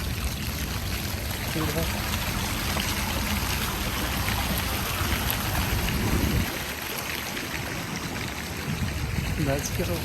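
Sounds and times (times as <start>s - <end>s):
water fountain splashing: 0.0s - 10.0s.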